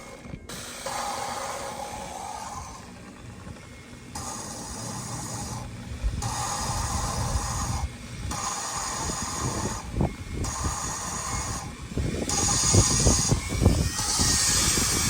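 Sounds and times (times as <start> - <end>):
drill spinning: 0.0 - 15.0
gritty grinding of valve compound: 0.0 - 15.0.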